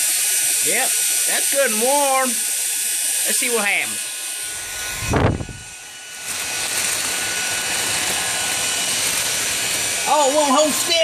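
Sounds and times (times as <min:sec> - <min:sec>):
hair dryer blowing air: 0:00.0 - 0:11.0.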